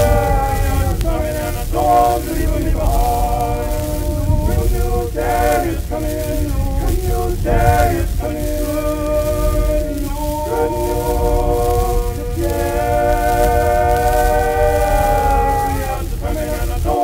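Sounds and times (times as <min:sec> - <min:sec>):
group singing unaccompanied: 0:00.0 - 0:17.0
steady low rumble: 0:00.0 - 0:17.0.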